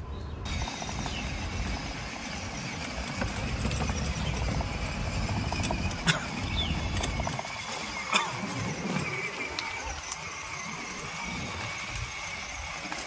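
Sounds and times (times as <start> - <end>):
toy car wheels rattling on tiles: 0.5 - 13.0.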